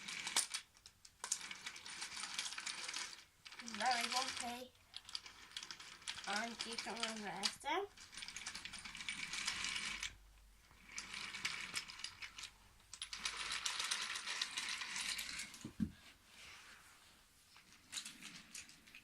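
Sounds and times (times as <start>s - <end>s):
toy train wheels rattling on track: 0.0s - 15.6s, 17.6s - 19.0s.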